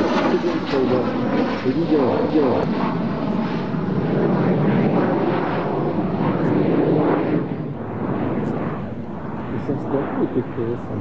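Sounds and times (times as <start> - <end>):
jets flying overhead: 0.0 - 11.0.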